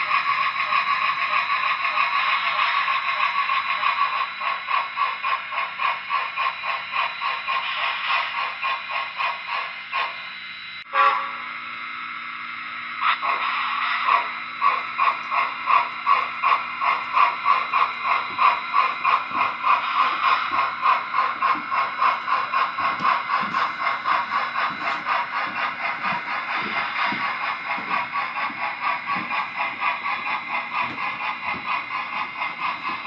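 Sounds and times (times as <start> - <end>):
model steam locomotive chuffing: 0.0 - 33.0
steady hum: 0.0 - 33.0.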